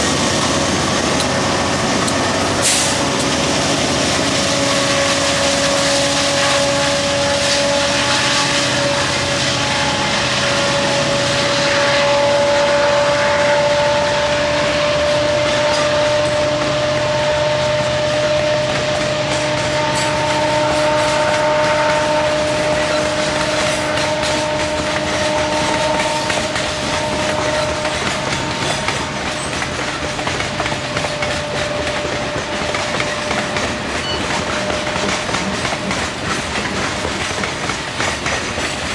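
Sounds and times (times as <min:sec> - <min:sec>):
steel wheels clacking over rail joints: 0:00.0 - 0:10.8, 0:13.3 - 0:38.9
train rumble: 0:00.0 - 0:38.9.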